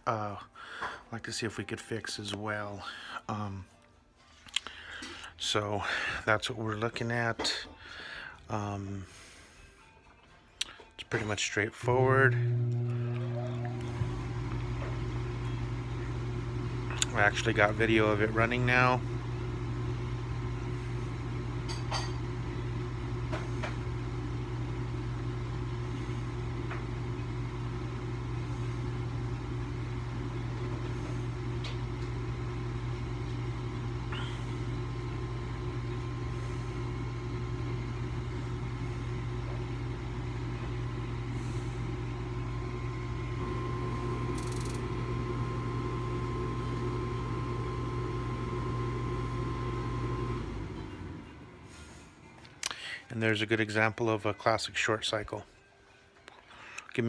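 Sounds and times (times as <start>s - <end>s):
gas furnace humming: 4.5s - 9.9s, 10.6s - 53.9s.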